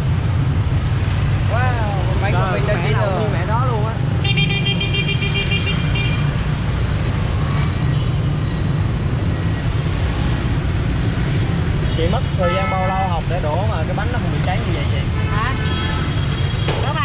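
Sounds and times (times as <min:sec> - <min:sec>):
motorbike and car traffic rumble: 0:00.0 - 0:17.0.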